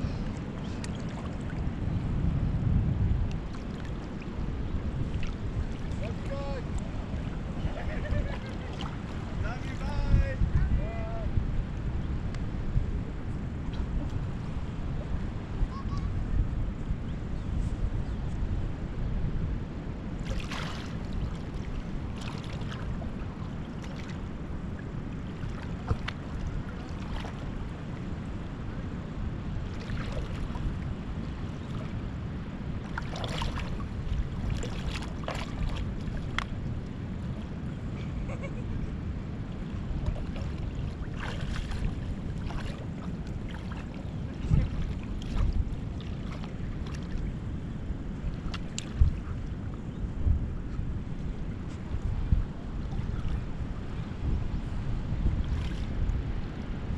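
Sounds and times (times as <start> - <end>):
wind rumbling on microphone: 0.0 - 56.9.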